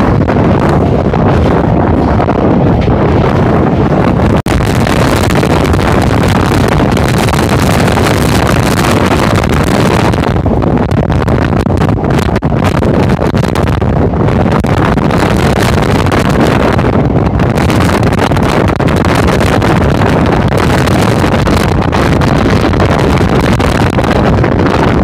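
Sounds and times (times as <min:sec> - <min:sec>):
train rushing at speed: 0:00.0 - 0:25.0
wind buffeting microphone: 0:00.0 - 0:25.0.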